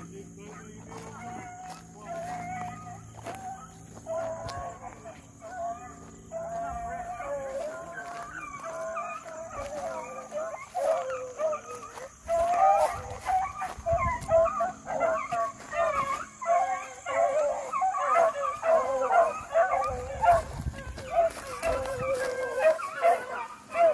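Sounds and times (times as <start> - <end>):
hounds baying: 0.0 - 23.9.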